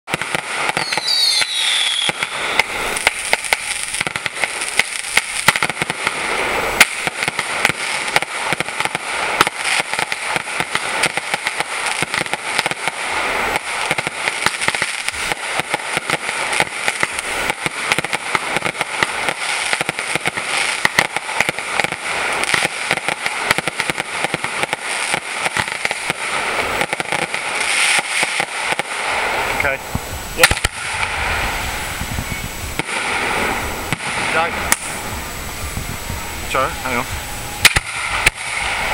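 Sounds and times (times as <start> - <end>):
fireworks crackling pops: 0.0 - 38.9
falling firework whistle: 0.1 - 21.2, 25.4 - 38.9.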